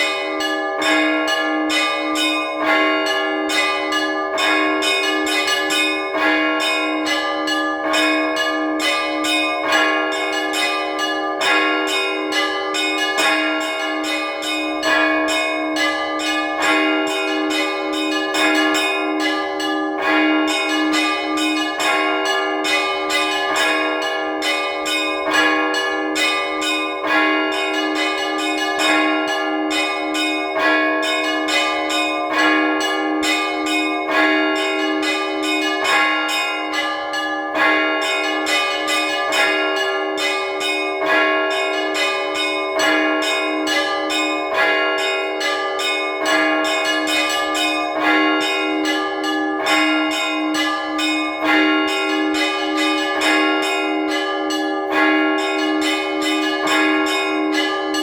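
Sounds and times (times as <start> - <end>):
lower bell repeating: 0.0 - 58.0
small bells chiming rapidly: 0.0 - 58.0.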